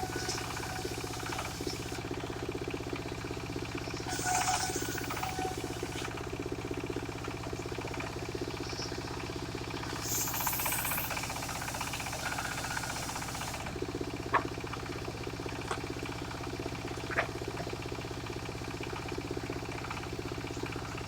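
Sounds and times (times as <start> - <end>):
sawmill engine running: 0.0 - 21.0.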